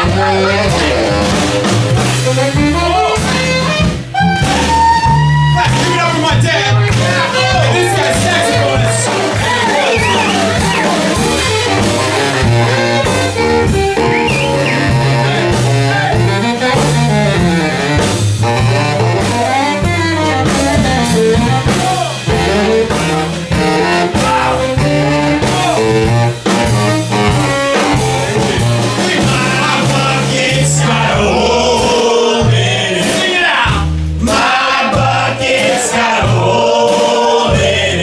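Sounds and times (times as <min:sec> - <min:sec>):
saxophones: 0:00.0 - 0:32.8
trumpet: 0:00.0 - 0:33.2
drum kit: 0:00.0 - 0:38.0
walking double bass: 0:00.0 - 0:38.0.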